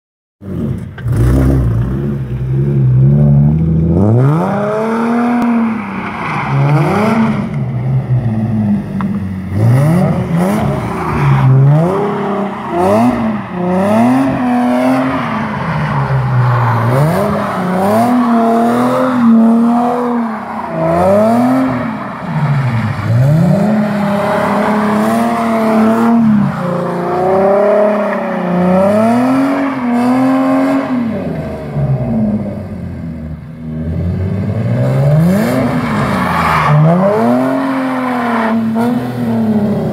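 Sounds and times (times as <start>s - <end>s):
car engine revving: 0.4s - 39.9s
tyres on wet asphalt: 0.4s - 39.9s.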